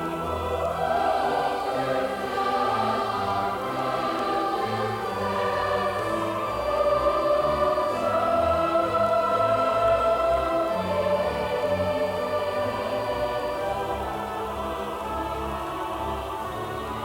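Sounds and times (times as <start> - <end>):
choir singing held notes: 0.0 - 17.0.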